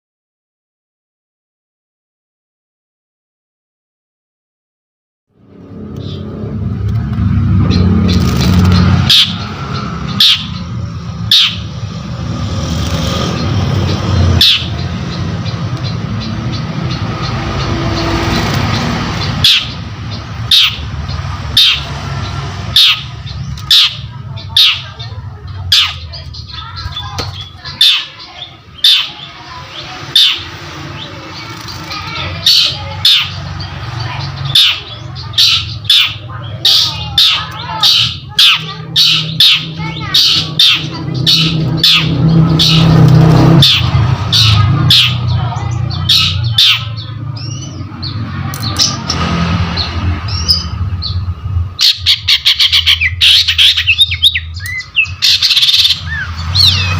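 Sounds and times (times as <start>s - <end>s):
bird calling sharp notes: 7.5s - 12.2s, 12.8s - 56.9s.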